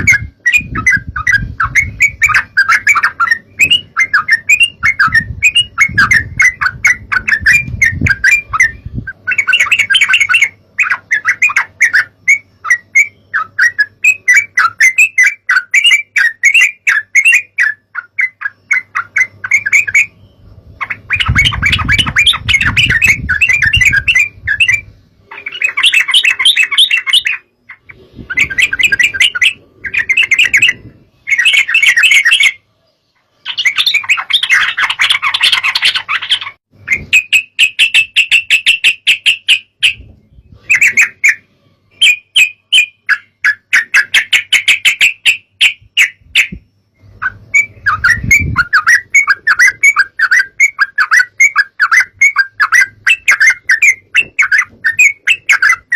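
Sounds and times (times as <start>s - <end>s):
bird chattering song: 0.0s - 55.9s.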